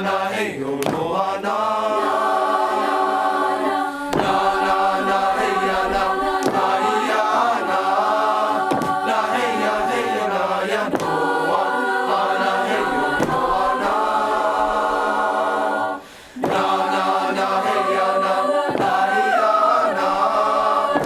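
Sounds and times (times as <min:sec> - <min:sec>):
choir singing wordless chant: 0:00.0 - 0:21.0.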